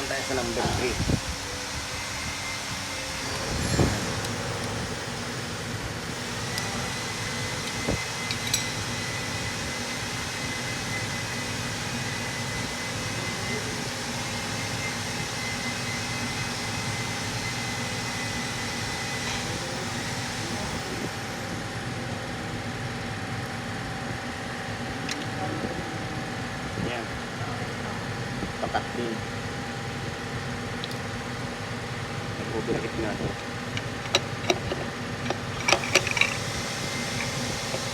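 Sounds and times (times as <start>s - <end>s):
workshop mechanical hum: 0.0s - 37.9s.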